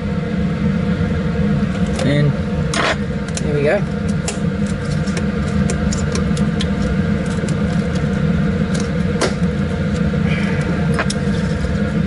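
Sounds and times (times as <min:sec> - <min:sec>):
fan drone: 0:00.0 - 0:12.0.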